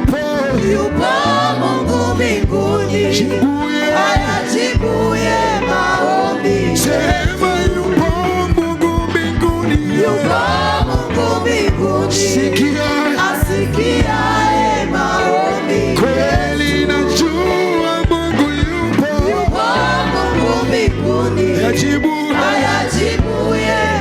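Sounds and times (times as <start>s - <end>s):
band bass and drums: 0.0s - 1.0s, 2.1s - 3.3s, 4.1s - 5.6s, 6.7s - 15.3s, 15.9s - 24.0s
choir singing worship song: 0.0s - 24.0s.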